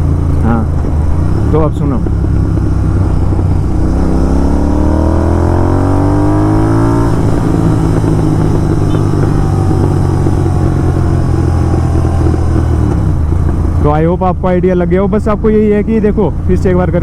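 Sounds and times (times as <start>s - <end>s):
motorcycle engine revving: 0.0s - 16.5s.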